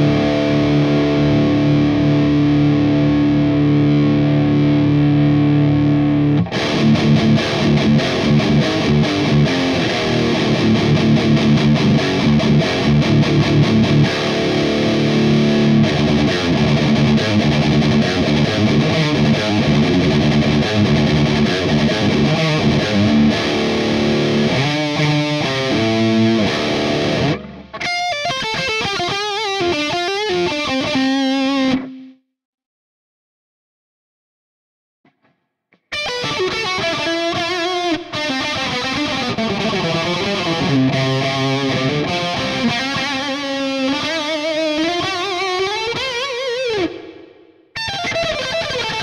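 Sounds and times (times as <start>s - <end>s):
distorted electric guitar: 0.0s - 32.2s, 35.1s - 49.0s.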